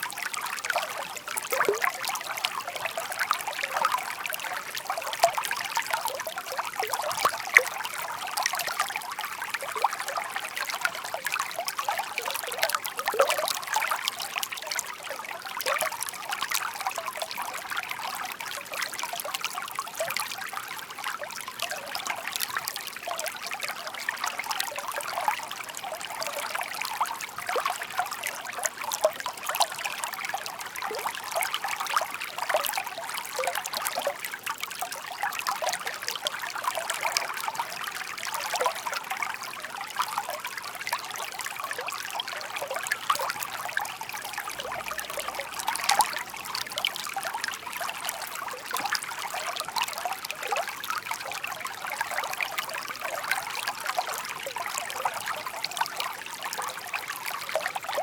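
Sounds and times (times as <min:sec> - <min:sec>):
stream babbling over stones: 0:00.0 - 0:58.0.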